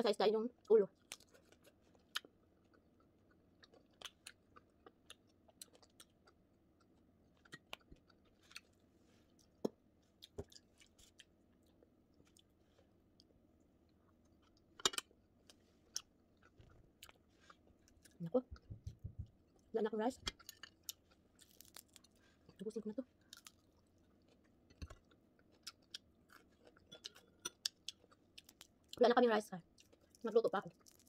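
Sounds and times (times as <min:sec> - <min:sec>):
chewing crispy fried fish: 0:00.9 - 0:18.7, 0:19.4 - 0:29.0, 0:29.6 - 0:31.0.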